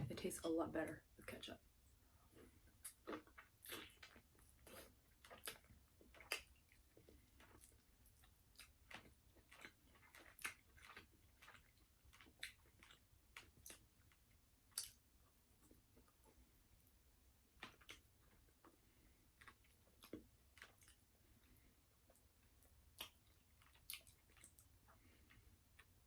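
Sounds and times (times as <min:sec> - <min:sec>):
person chewing crunchy food: 0:02.3 - 0:16.4, 0:17.5 - 0:26.0.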